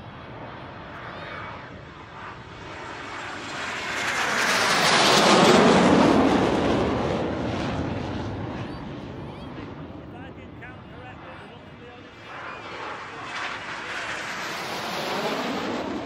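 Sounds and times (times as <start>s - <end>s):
jets taking off: 0.1s - 16.0s.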